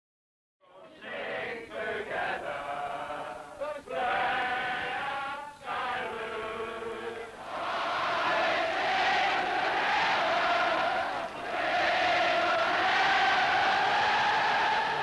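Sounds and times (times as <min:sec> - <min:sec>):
football crowd singing: 0:00.6 - 0:15.0.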